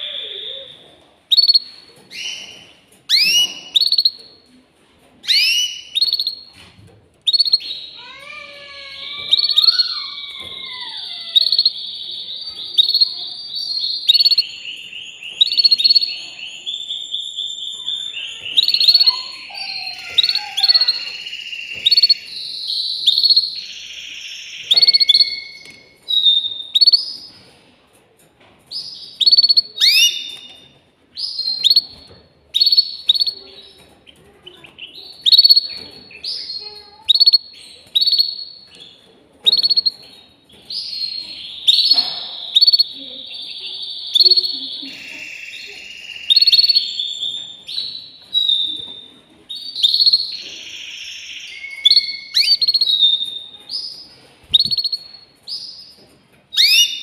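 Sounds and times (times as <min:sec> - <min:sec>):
canary singing trills: 0:00.0 - 0:04.4, 0:05.2 - 0:06.6, 0:07.2 - 0:27.4, 0:28.7 - 0:57.0.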